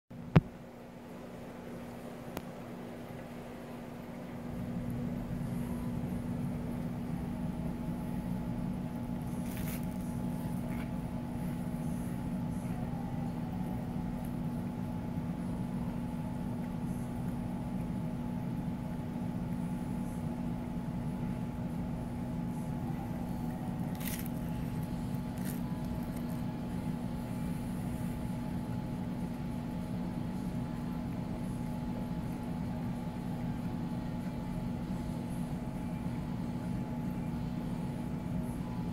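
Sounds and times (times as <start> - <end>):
aquarium filter pump humming: 0.1 - 38.9.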